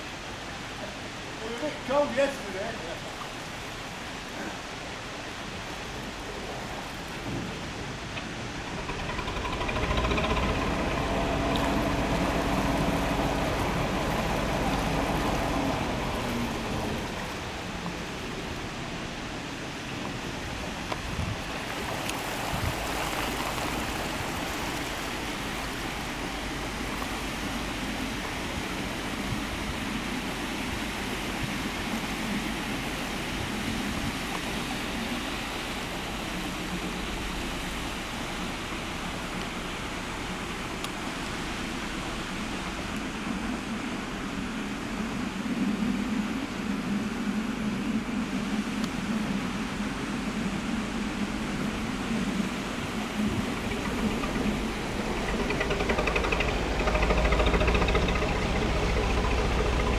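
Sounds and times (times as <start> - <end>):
boat engine humming: 0.0 - 59.9
steady rushing noise: 0.0 - 59.9.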